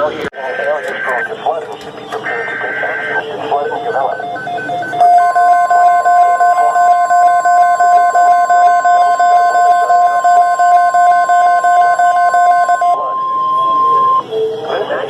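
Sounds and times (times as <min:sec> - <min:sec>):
steady warning alarm tone: 0:00.5 - 0:15.0.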